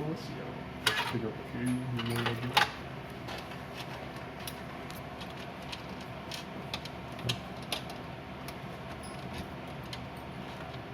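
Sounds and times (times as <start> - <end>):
steady background hum: 0.0 - 10.9.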